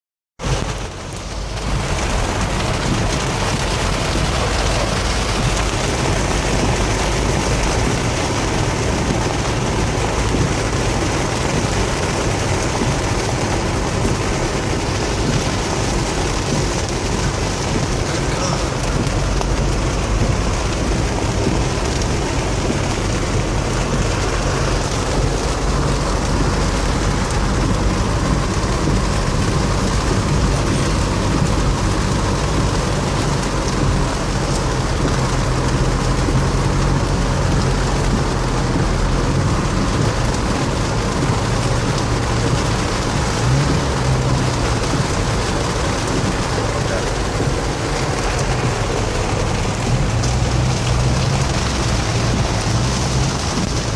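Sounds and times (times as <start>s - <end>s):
car engine humming: 0.4s - 53.9s
water rushing against car: 0.4s - 53.9s.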